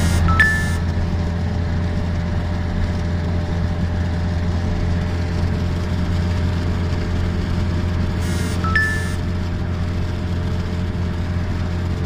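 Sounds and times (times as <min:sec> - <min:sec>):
vehicle engine and tyre drone: 0:00.0 - 0:12.0.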